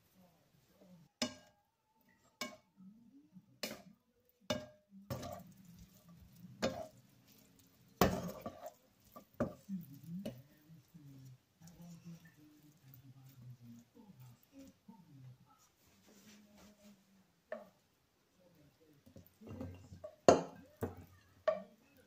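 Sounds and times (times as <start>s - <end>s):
wooden spatula stirring in a pan: 3.5s - 22.0s.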